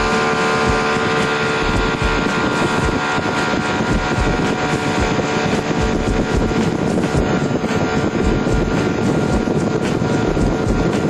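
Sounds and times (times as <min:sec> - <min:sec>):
boat engine running: 0:00.0 - 0:11.0
rushing water: 0:00.0 - 0:11.0
wind buffeting microphone: 0:00.0 - 0:11.0.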